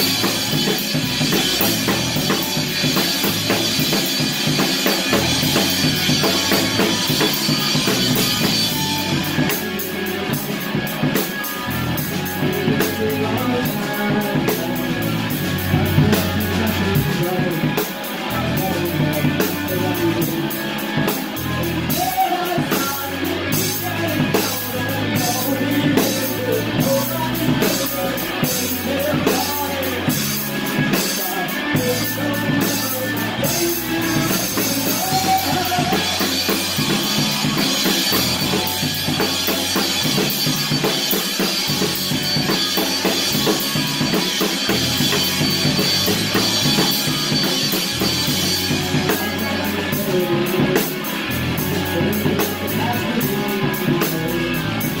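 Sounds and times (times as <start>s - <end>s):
loud drum kit: 0.0s - 55.0s
rock band playing: 0.0s - 55.0s.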